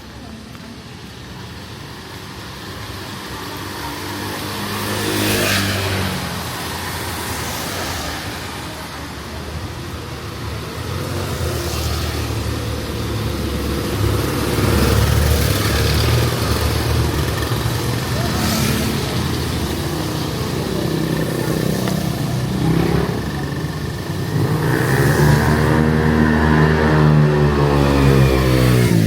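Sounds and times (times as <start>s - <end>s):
vehicle engines passing: 0.0s - 29.0s.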